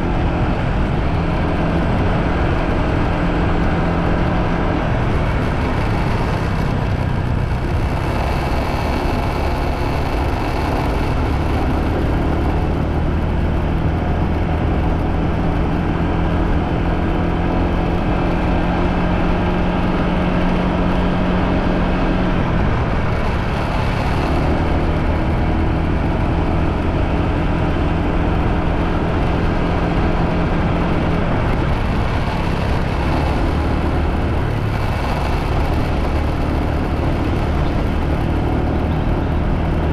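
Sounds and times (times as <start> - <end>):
motorbike engine running: 0.0 - 39.9
road noise: 0.0 - 39.9
wind noise: 0.0 - 39.9.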